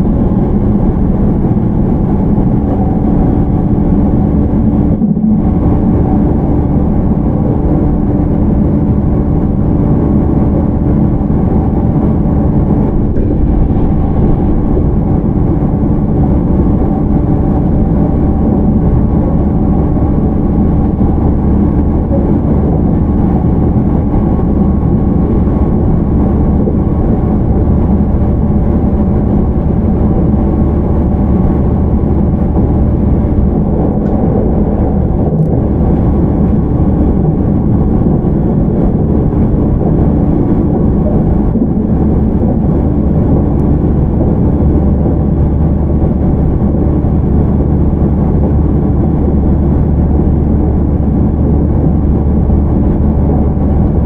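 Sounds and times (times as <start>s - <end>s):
constant-pitch motor hum: 0.0s - 54.0s
train wheels rumbling on rail: 0.0s - 54.0s.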